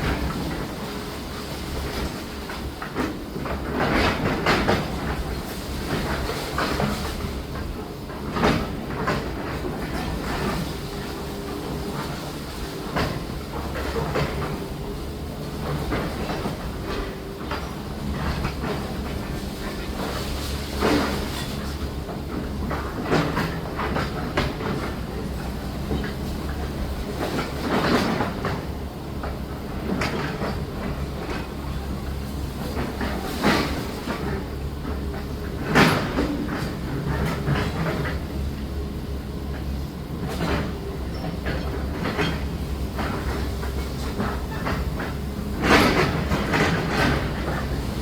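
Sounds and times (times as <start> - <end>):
demolition machinery engine hum: 0.0 - 48.0.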